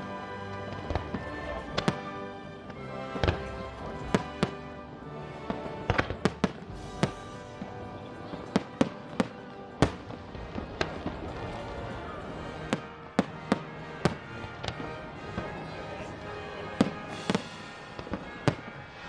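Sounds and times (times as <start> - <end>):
music: 0.0 - 19.0
fireworks bangs: 0.6 - 19.0.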